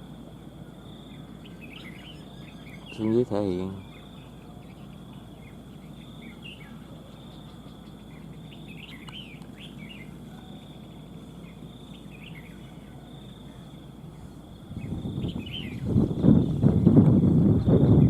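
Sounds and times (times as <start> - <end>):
bird chirping song: 0.0 - 18.0
high insect drone: 0.0 - 18.0.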